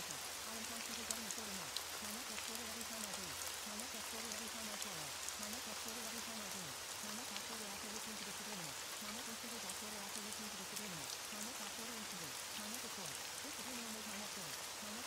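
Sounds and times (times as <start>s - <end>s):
faint low voice speaking: 0.0s - 15.0s
steady rain: 0.0s - 15.0s.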